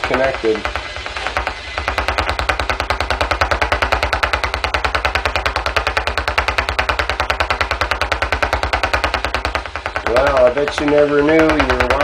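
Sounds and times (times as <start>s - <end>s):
rapid electronic clicking pulses: 0.0s - 12.0s.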